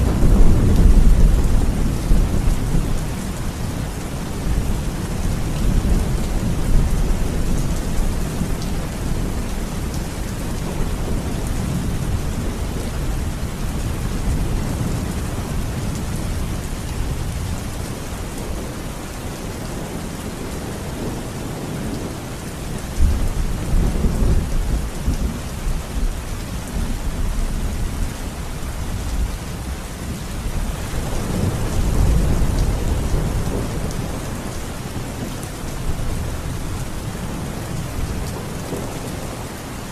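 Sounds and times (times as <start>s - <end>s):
rolling thunder: 0.0s - 18.8s, 19.8s - 39.5s
steady rain: 0.0s - 39.9s.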